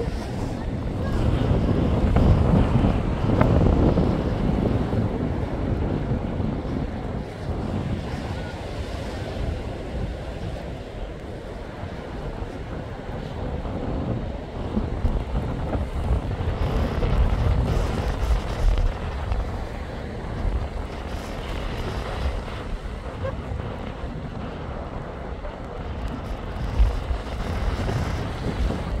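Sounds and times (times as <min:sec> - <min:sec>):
sea waves breaking on shore: 0:00.0 - 0:29.0
wind buffeting microphone: 0:00.0 - 0:29.0.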